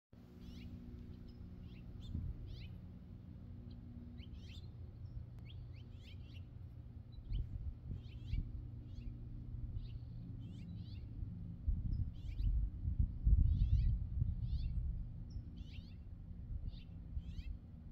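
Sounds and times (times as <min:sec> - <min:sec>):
birds chirping: 0:00.2 - 0:12.6, 0:13.5 - 0:17.6
steady low hum: 0:00.2 - 0:17.9.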